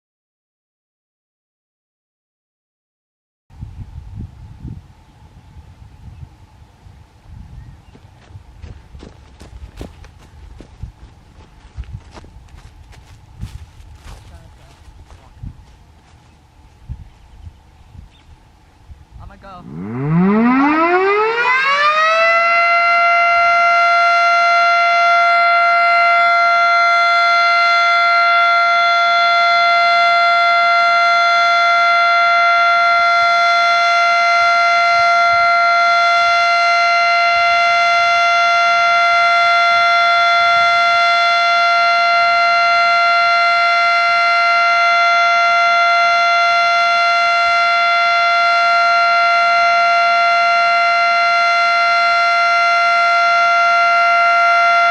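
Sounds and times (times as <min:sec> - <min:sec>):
warning siren steady tone: 0:04.7 - 0:54.9.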